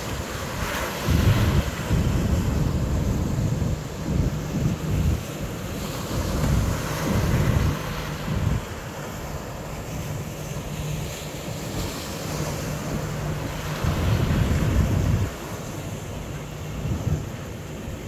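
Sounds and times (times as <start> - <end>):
choppy water: 0.0 - 18.0
wind buffeting microphone: 0.0 - 18.0.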